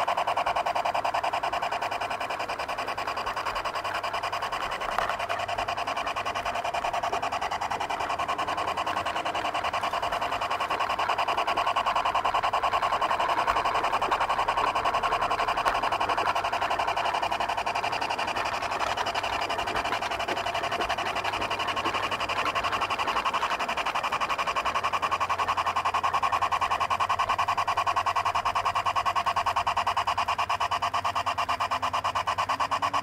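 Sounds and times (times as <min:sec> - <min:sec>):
model locomotive running on track: 0:00.0 - 0:33.0.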